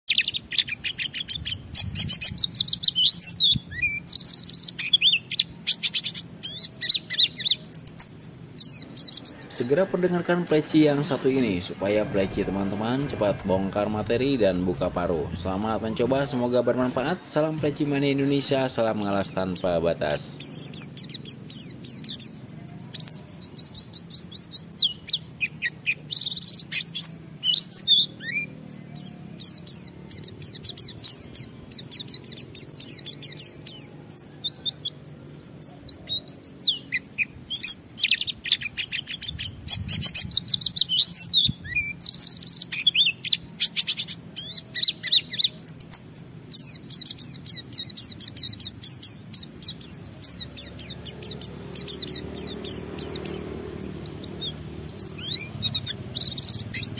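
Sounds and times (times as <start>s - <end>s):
bird twittering and trilling: 0.1s - 56.9s.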